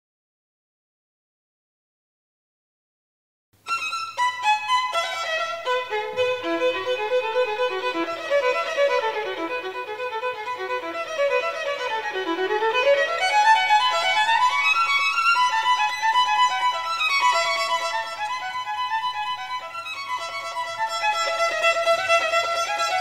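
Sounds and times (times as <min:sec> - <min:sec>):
violin playing fast runs: 0:03.6 - 0:23.0.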